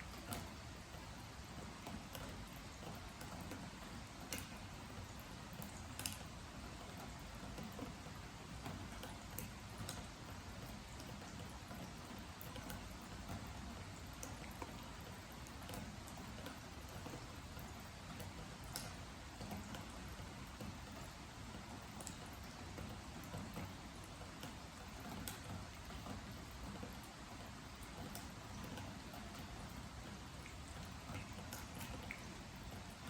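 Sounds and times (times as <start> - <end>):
drips ticking on wooden deck: 0.0 - 33.0.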